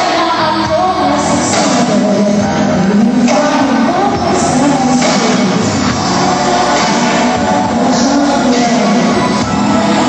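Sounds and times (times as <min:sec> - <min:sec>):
live pop ballad band: 0:00.0 - 0:10.0
person singing: 0:00.0 - 0:10.0.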